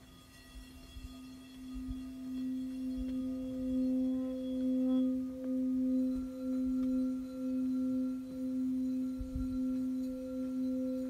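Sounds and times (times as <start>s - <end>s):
crystal singing bowls ringing: 0.0s - 11.0s.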